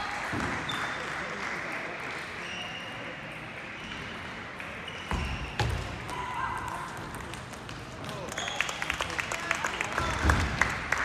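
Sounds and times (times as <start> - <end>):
sports hall hubbub: 0.0 - 11.0.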